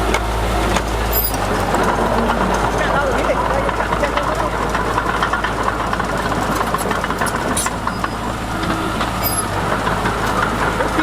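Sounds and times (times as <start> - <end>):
heavy diesel engine running: 0.0 - 11.0
metallic clanks: 0.8 - 11.0.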